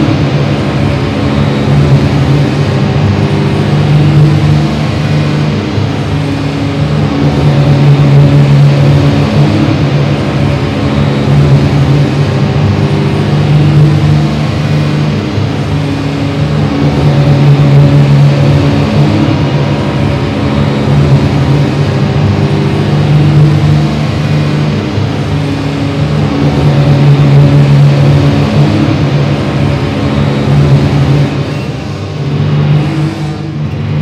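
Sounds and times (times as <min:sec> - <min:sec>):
deep electronic drone hum: 0:00.0 - 0:34.0.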